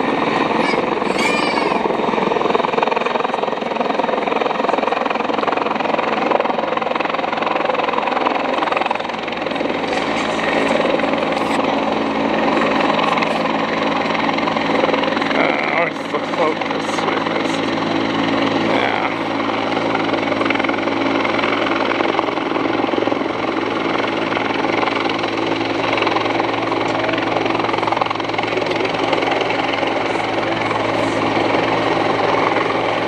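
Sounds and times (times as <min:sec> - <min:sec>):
helicopter engine and rotor drone: 0:00.0 - 0:33.0.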